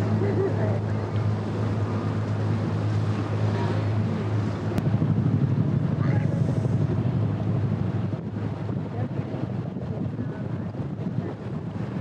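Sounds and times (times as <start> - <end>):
boat engine humming: 0.0 - 12.0
water rushing: 0.0 - 12.0
wind on microphone: 0.0 - 12.0.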